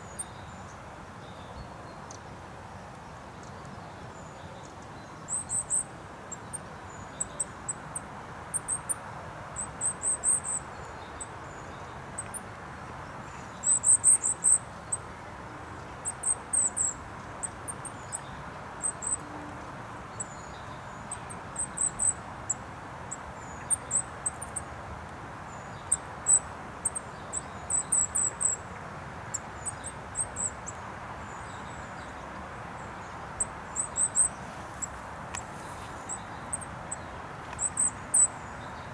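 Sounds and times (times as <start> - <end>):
road traffic hum: 7.5 - 38.9.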